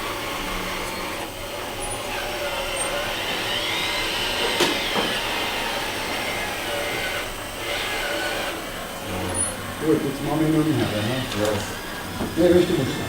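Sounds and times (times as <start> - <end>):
small electric motor whine: 0.0 - 13.0.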